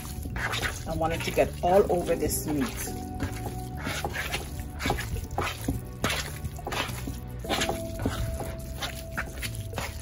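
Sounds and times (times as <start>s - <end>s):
background music: 0.0s - 10.0s
hand squelching minced meat: 0.0s - 10.0s.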